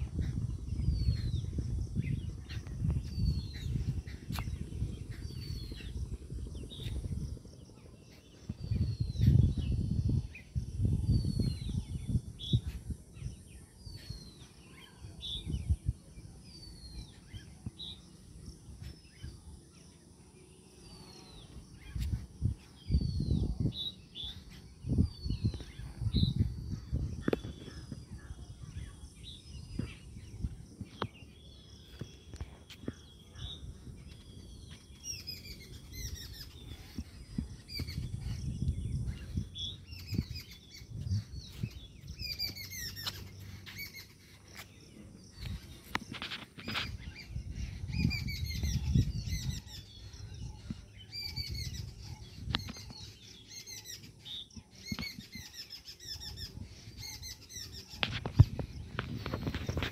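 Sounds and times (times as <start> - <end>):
low rumbling microphone noise: 0.0 - 19.9, 20.9 - 53.5, 56.4 - 59.9
birds chirping: 0.0 - 59.9.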